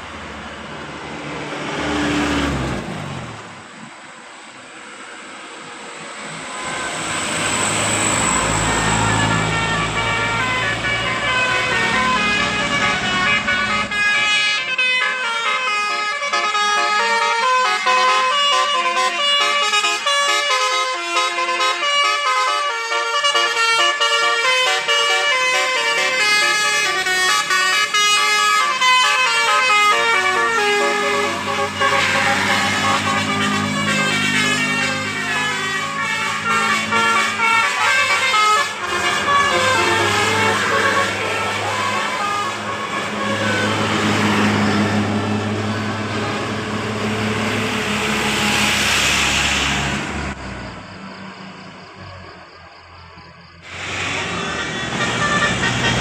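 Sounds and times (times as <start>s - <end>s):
bus engine and road noise: 0.0s - 56.0s
bus musical horn melody: 6.4s - 50.3s, 53.7s - 56.0s.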